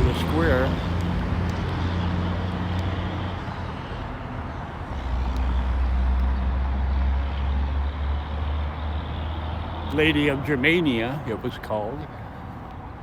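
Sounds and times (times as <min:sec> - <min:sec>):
large vehicle engine rumble: 0:00.0 - 0:13.0.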